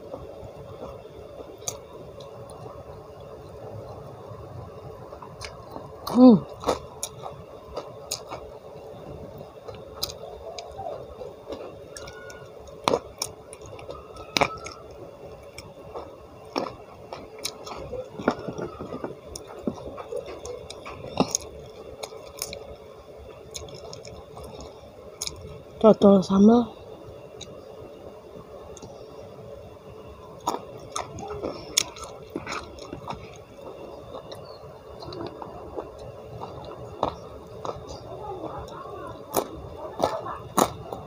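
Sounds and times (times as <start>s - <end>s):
faint steady hum: 0.0s - 41.0s
chewing and wet mouth sounds: 0.2s - 4.1s, 4.9s - 25.6s, 27.4s - 27.6s, 28.7s - 29.2s, 30.3s - 41.0s.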